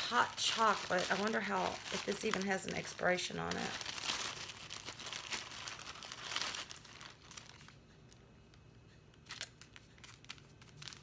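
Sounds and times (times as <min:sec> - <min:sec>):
plastic bag crinkling: 0:00.0 - 0:07.8, 0:09.2 - 0:11.0.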